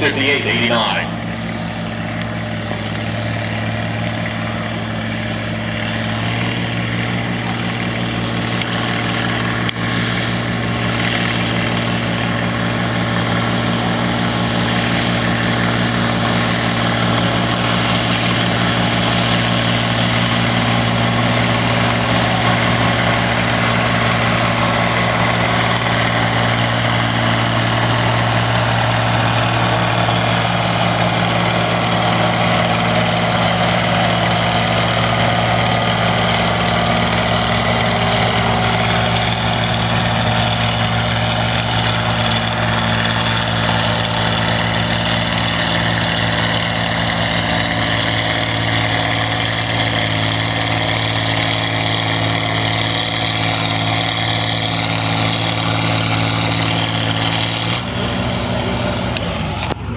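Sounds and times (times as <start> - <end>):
tractor engine under heavy load: 0.0 - 59.9.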